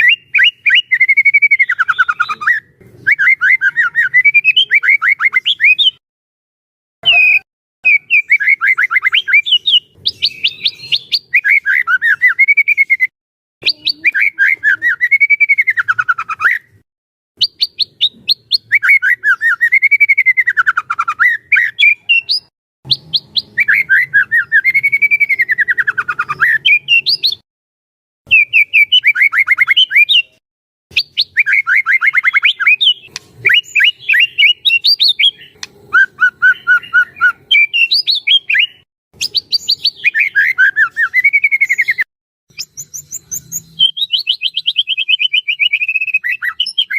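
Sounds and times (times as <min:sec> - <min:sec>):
bird singing chattering phrases: 0:00.0 - 0:06.0, 0:07.0 - 0:16.8, 0:17.4 - 0:27.4, 0:28.3 - 0:46.9.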